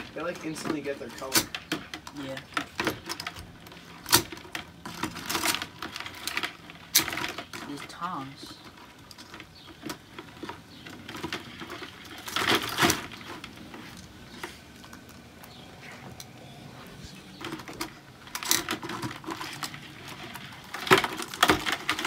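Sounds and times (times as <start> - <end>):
crab shells rattling: 0.0 - 16.4, 17.2 - 22.0.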